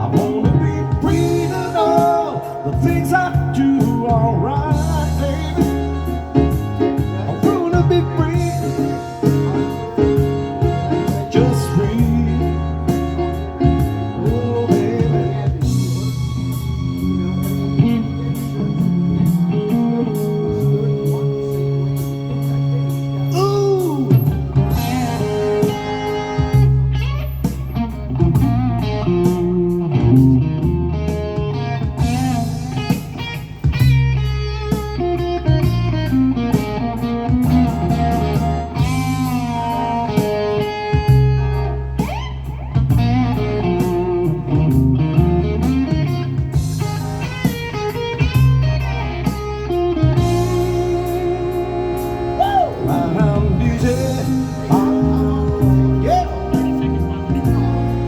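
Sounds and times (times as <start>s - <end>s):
bass and drums: 0.0s - 58.0s
electric guitar bending notes: 0.0s - 58.0s.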